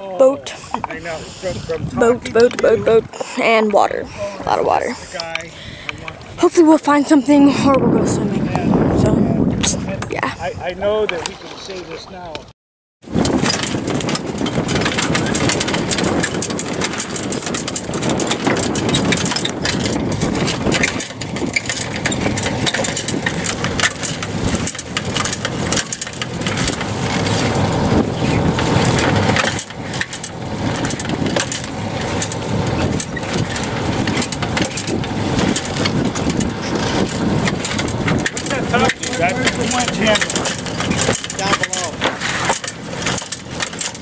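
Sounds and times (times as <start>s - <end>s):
sail flapping in the wind: 0.0s - 44.0s
wind buffeting microphone: 0.0s - 44.0s.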